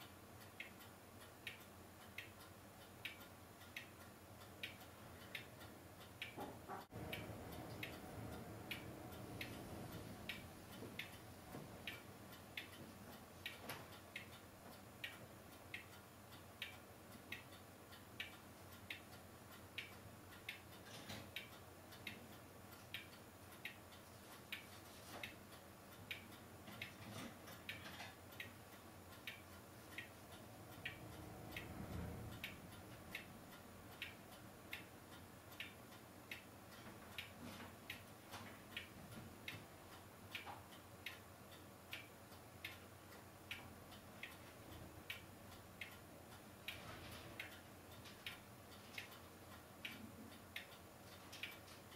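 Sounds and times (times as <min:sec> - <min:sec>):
faint ticking: 0:00.0 - 0:51.9
low background hiss: 0:00.0 - 0:51.9.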